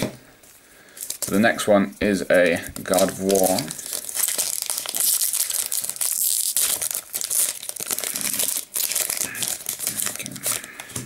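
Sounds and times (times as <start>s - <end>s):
foil wrapper tearing and crinkling: 0.9s - 1.6s, 2.4s - 11.0s.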